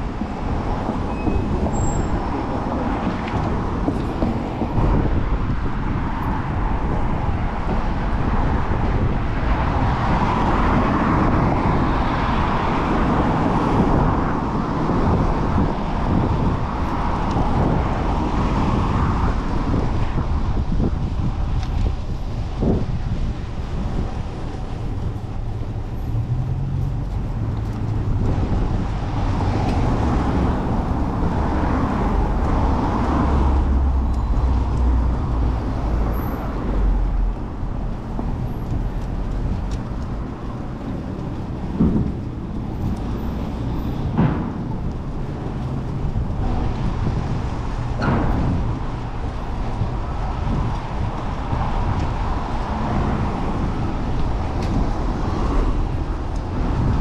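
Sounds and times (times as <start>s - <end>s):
road traffic engines rumbling: 0.0s - 57.0s.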